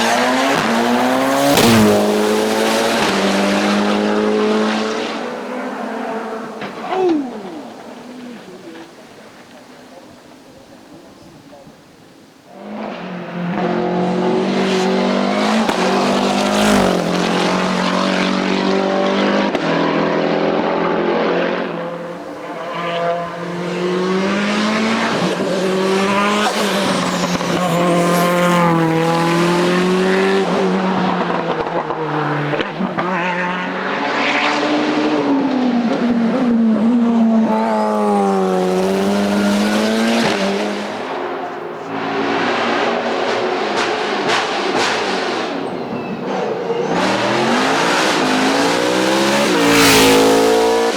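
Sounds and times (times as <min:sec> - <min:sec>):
race car engine revving: 0:00.0 - 0:10.2, 0:12.4 - 0:50.9.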